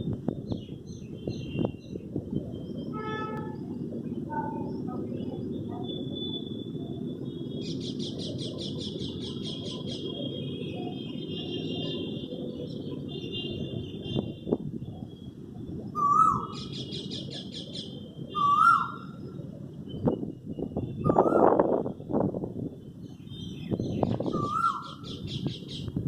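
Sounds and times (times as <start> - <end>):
birds chirping: 0.4 - 21.6, 22.9 - 26.0.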